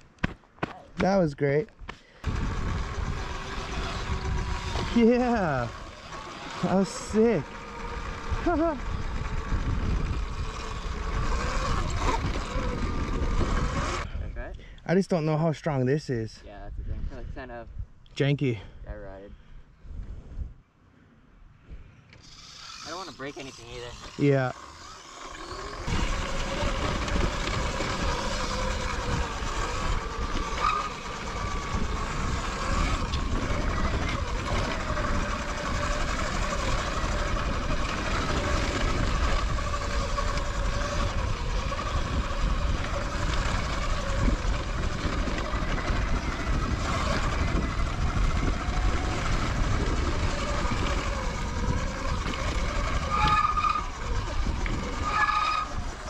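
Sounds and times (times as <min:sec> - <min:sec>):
wind and rough ground rumble: 0:00.0 - 0:56.0
electric motor whine: 0:02.0 - 0:14.2, 0:22.1 - 0:56.0.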